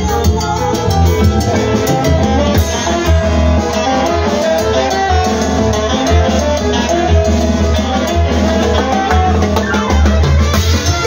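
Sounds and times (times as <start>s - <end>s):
drum kit and timbales beat: 0.0s - 11.0s
electric bass: 0.0s - 11.0s
saxophones: 0.0s - 11.0s.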